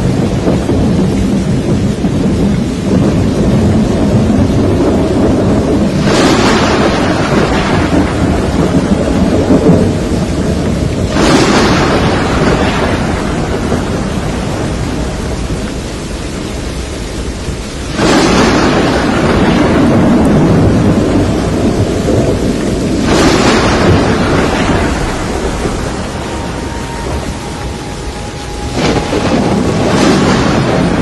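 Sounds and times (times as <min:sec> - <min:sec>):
steady rain: 0:00.0 - 0:31.0
thunder claps rumbling: 0:00.0 - 0:31.0.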